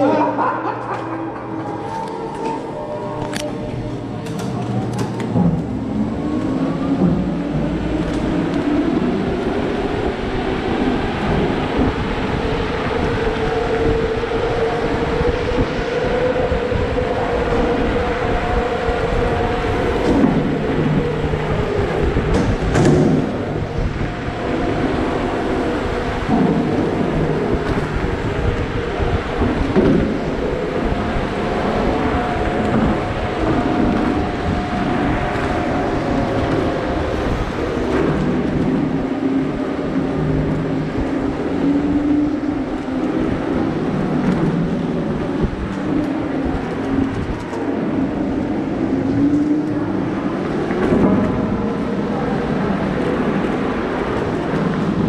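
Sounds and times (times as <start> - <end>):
wind rumble on microphone: 0.8 - 55.0.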